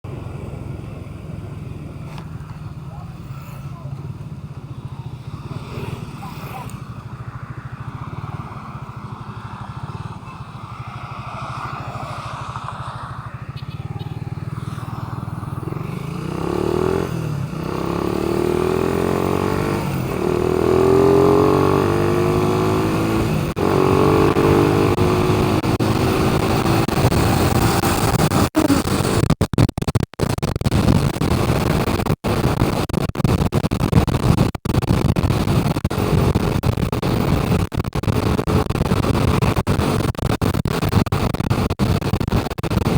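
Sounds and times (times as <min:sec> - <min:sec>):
vehicle engine running: 0:00.0 - 0:42.9.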